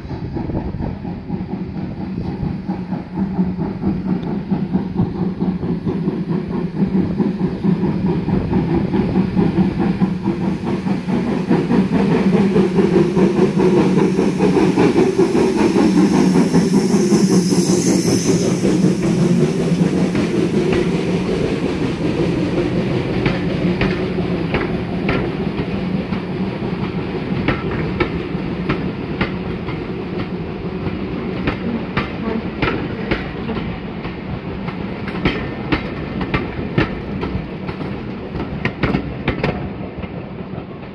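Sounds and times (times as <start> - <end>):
steam locomotive pulling away: 0.0 - 40.7
train wheels clicking over rail joints: 0.0 - 40.9.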